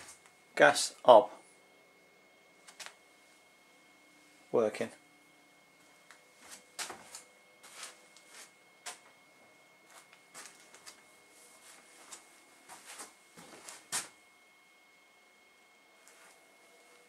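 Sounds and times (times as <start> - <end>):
faint steady high tone: 0.1 - 12.6, 14.2 - 17.0.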